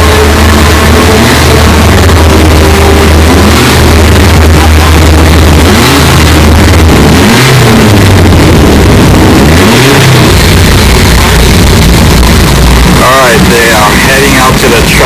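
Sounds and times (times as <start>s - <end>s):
rotary racing engine idling and revving: 0.0s - 15.0s.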